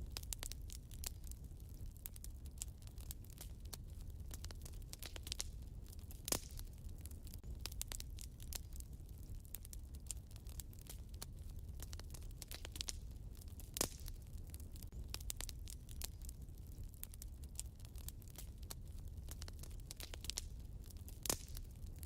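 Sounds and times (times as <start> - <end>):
low steady rumble: 0.0 - 22.0
wood fire crackling: 0.0 - 22.0.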